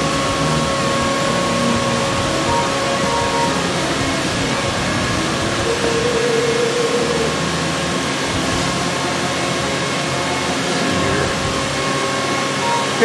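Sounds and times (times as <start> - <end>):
faint steady tones: 0.0 - 13.0
workshop machinery whirring: 0.0 - 13.0.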